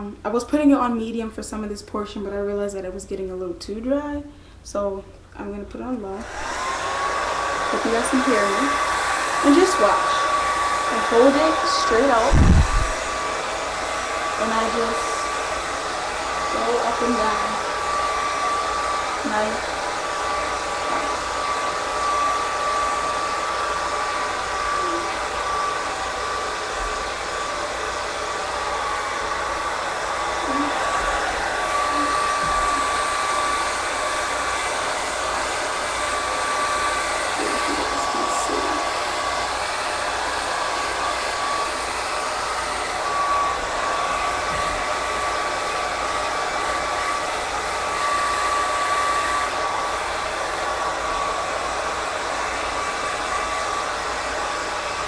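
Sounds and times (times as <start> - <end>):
hair dryer running: 5.9 - 55.0.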